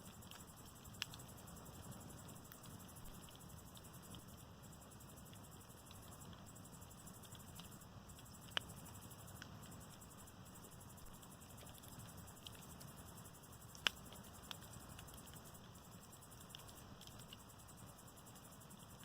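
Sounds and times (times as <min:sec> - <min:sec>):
fire crackles: 0:00.0 - 0:19.0.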